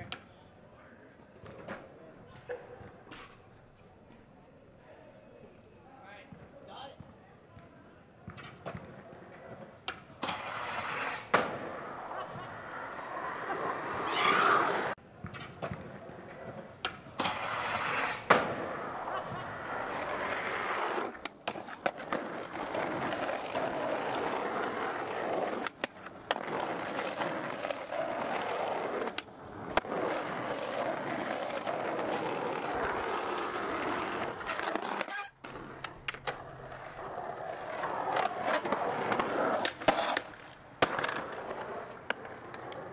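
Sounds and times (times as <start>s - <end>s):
skateboard clacks: 8.4s - 42.9s
skateboard wheels rolling on asphalt: 8.4s - 42.9s.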